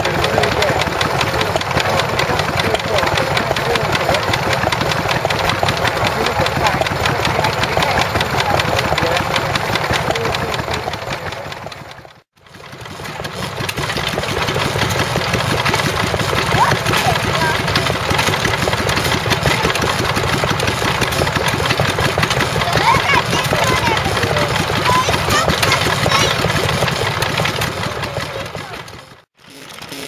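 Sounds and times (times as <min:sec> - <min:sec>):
stationary engine running: 0:00.0 - 0:30.0.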